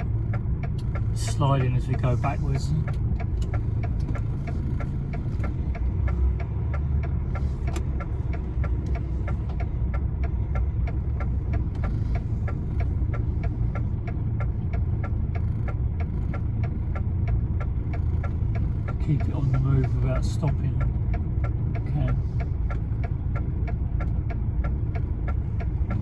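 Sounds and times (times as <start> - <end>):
diesel engine running: 0.0 - 26.0
steady ticking: 0.0 - 26.0.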